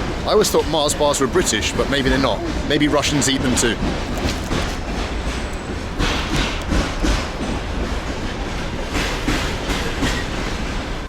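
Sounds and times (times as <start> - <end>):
passenger train rumbling past: 0.0 - 11.0
train wheels clacking: 0.0 - 11.0.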